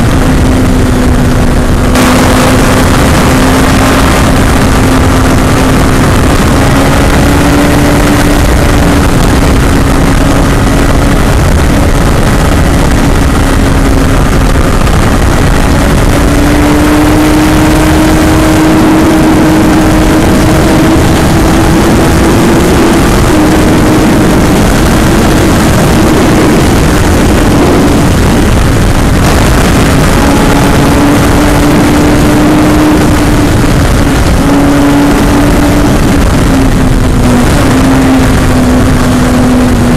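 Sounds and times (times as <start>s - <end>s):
loud rushing noise: 0.0s - 39.9s
motorcycle engine running hard: 0.0s - 39.9s.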